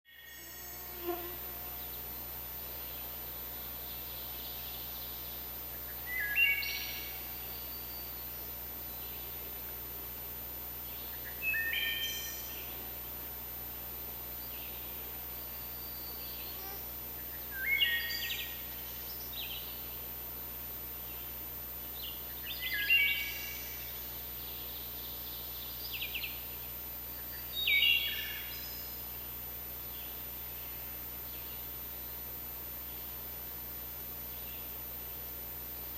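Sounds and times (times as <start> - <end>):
songbird singing: 0.1 - 13.3, 14.0 - 20.2, 20.9 - 32.1, 34.2 - 35.9
outdoor background hiss: 0.1 - 35.9.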